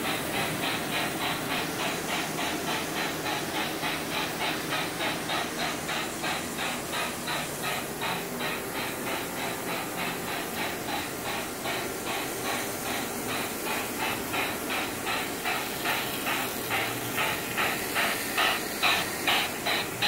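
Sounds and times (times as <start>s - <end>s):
model train hissing chug: 0.0s - 20.0s.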